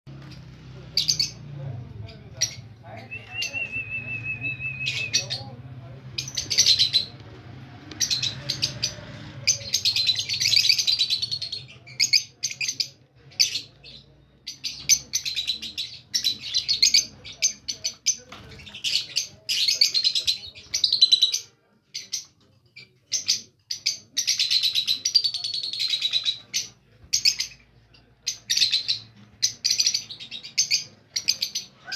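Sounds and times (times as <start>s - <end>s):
lovebirds chirping: 0.1s - 7.2s, 7.9s - 31.9s.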